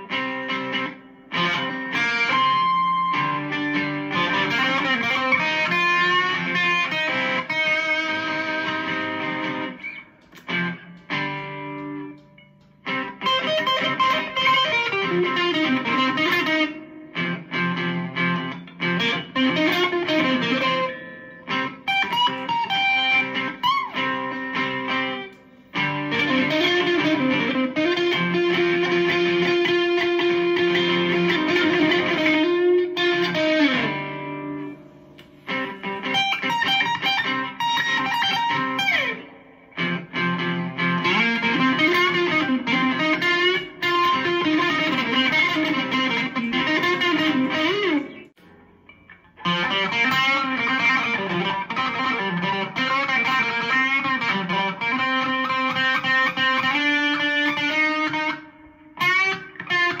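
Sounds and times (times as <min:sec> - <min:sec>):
electric guitar blues lead: 0:00.0 - 1:00.0.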